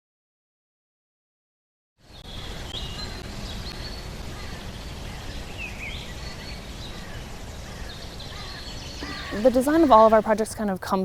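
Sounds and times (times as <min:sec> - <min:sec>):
birds chirping: 0:02.1 - 0:11.0.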